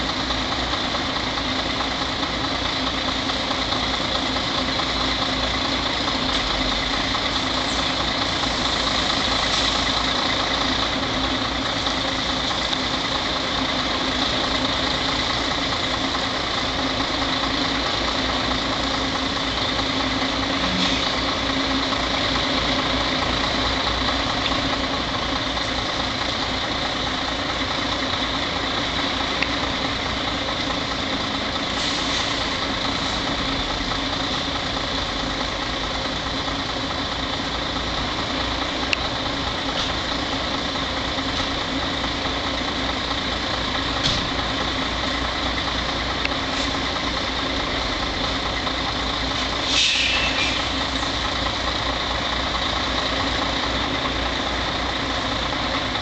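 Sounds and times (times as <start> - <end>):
truck diesel engine idling: 0.0 - 56.0.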